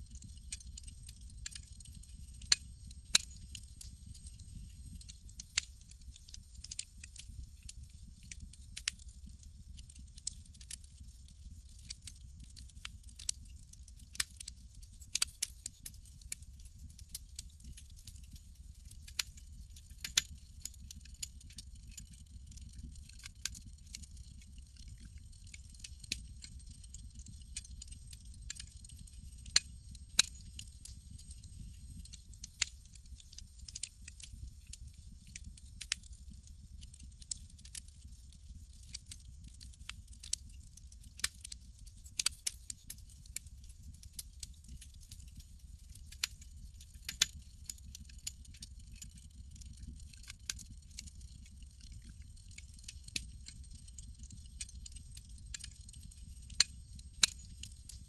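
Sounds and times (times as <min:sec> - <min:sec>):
campfire crackling and popping: 0:00.1 - 0:57.9.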